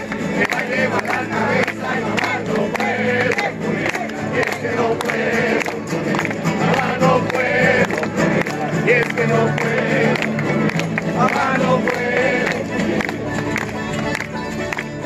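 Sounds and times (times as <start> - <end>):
group singing in chorus: 0.0 - 13.4
strummed guitars: 0.0 - 15.0.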